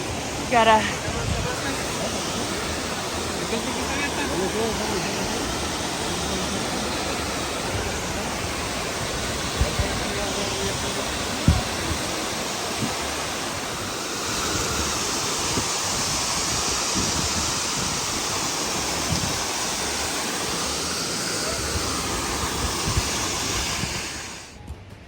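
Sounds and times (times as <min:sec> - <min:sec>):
waterfall rushing: 0:00.0 - 0:24.6.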